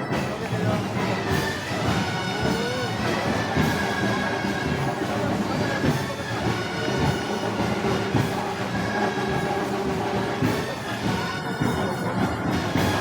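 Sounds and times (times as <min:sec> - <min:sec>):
wind band playing march: 0:00.0 - 0:13.0.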